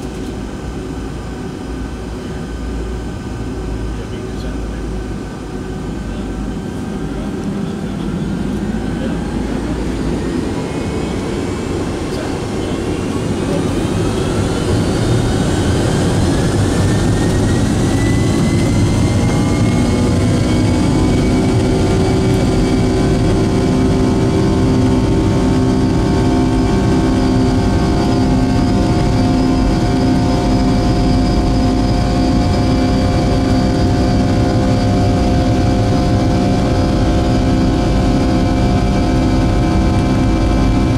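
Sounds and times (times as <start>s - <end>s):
jet engines whining: 0.0s - 40.9s
loud engine rumble: 0.0s - 40.9s.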